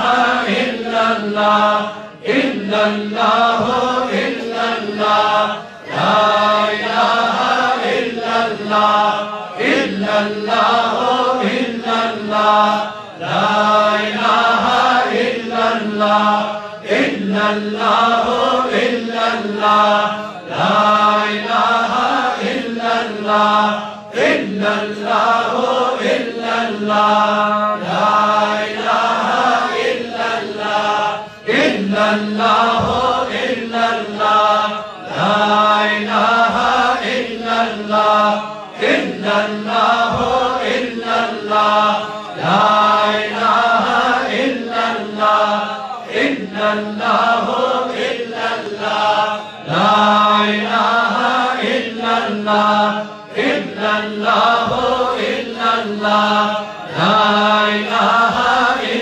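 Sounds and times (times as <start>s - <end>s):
leading voice chanting: 0.0s - 59.0s
men chanting together: 0.0s - 59.0s.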